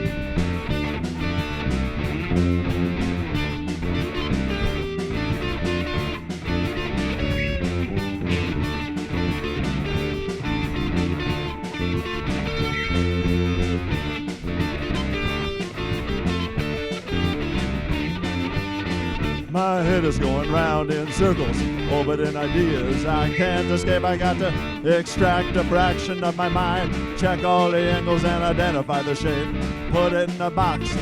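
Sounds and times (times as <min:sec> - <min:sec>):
steady drum beat: 0:00.0 - 0:31.0
strummed electric guitar: 0:00.0 - 0:31.0.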